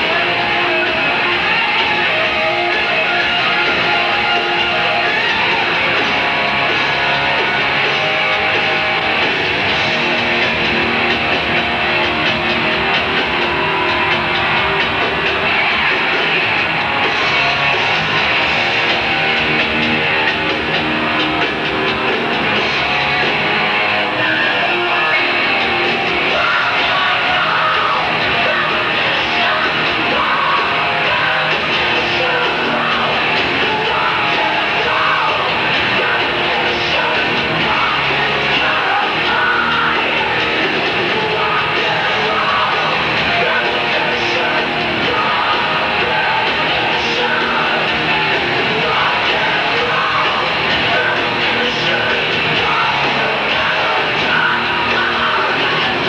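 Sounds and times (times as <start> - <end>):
lead vocal singing: 0.0 - 56.0
metal band playing live: 0.0 - 56.0.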